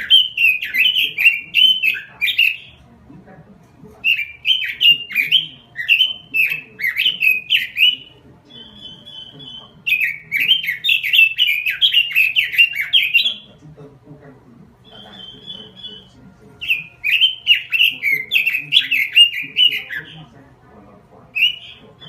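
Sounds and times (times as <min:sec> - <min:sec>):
bird trill: 0:00.0 - 0:02.8, 0:04.0 - 0:13.6, 0:14.8 - 0:20.3, 0:21.3 - 0:22.0
bird singing down-slurred notes: 0:00.0 - 0:13.9, 0:14.6 - 0:22.0.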